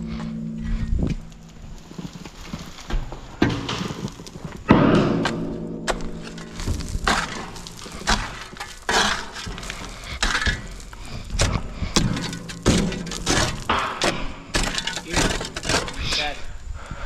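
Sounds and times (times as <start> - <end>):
machinery crunching through debris: 0.0 - 16.5.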